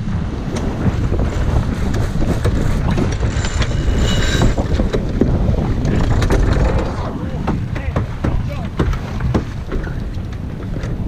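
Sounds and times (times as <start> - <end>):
water rushing along hull: 0.0 - 11.0
wind buffeting microphone: 0.0 - 11.0
boat gear clicks and knocks: 0.5 - 3.8, 4.4 - 11.0.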